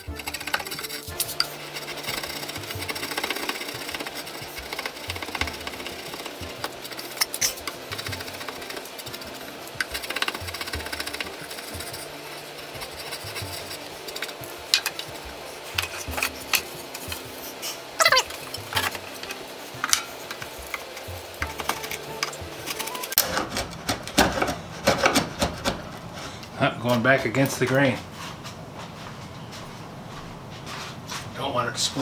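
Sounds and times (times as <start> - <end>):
draw knife scraping wood: 0.0 - 26.0
quiet background music: 0.0 - 32.0.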